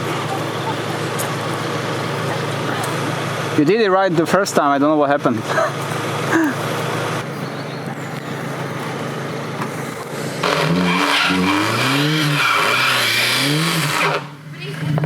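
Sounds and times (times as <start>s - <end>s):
car engine revving: 0.0s - 15.0s
tyre and road noise: 0.0s - 15.0s.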